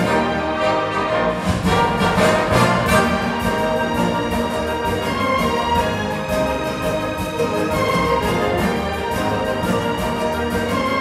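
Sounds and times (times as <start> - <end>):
orchestra with brass: 0.0 - 11.0.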